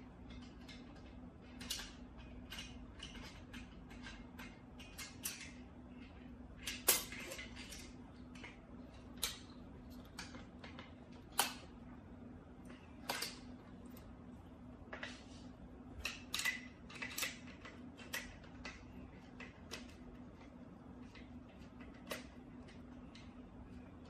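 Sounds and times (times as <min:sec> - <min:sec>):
small clicks and knocks of parts: 0:00.0 - 0:11.8, 0:12.6 - 0:14.2, 0:15.9 - 0:24.0
faint steady hum: 0:00.0 - 0:24.0.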